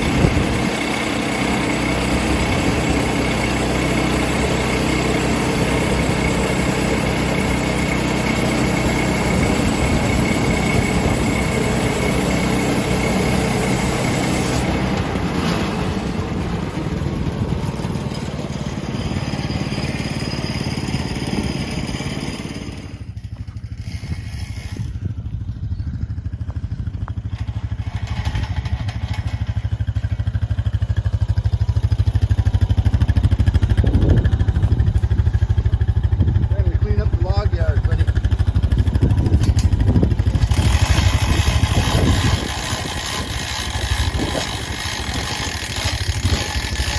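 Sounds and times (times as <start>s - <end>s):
engine running steadily: 0.0s - 46.9s
saw cutting log whine: 0.0s - 46.9s.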